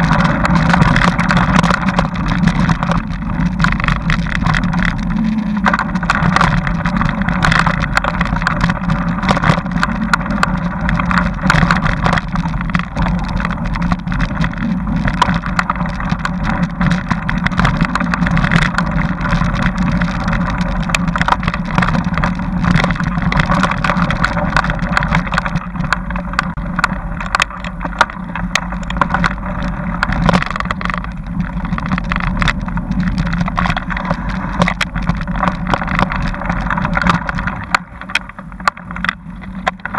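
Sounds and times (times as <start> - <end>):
bike rattling over dirt trail: 0.0 - 39.9.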